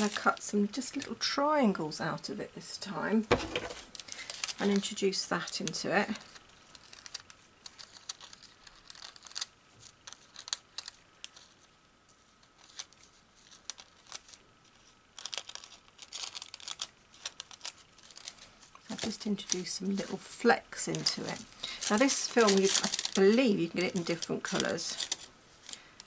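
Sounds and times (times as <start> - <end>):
plastic film crinkling: 0.0 - 1.2, 3.6 - 26.0.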